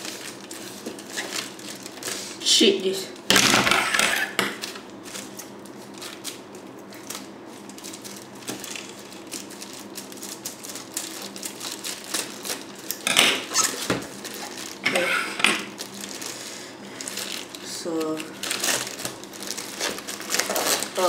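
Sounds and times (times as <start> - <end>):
packaging clicks and crinkles: 0.0 - 2.4, 3.2 - 21.0.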